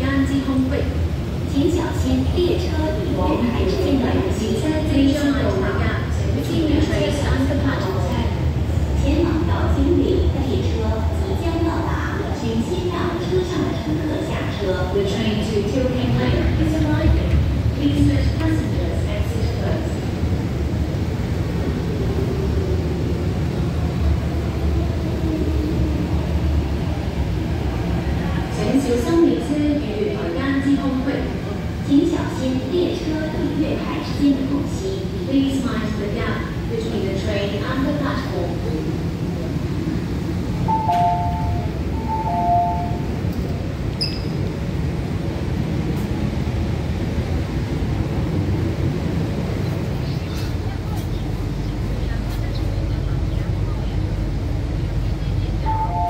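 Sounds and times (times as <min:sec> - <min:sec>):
train rumble of motors and wheels: 0:00.0 - 0:56.0.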